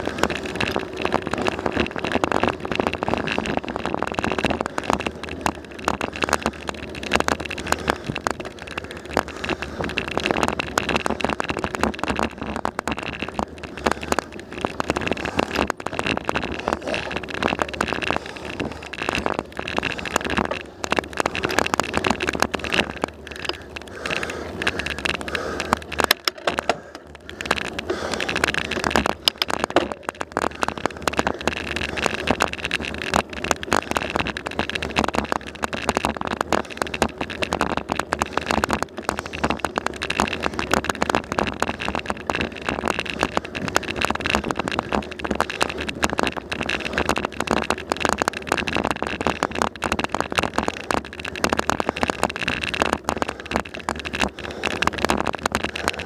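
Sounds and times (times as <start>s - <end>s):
bicycle rattling over rough asphalt: 0.0s - 56.0s.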